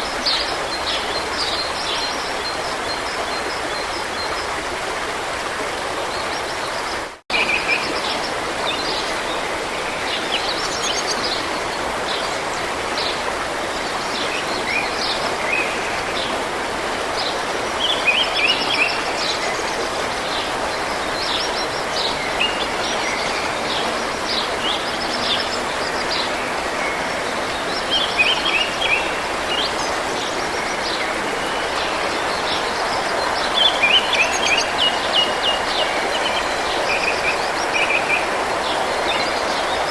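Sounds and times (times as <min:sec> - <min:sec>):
stream rushing: 0:00.0 - 0:39.9
songbirds chirping and trilling: 0:06.0 - 0:39.9.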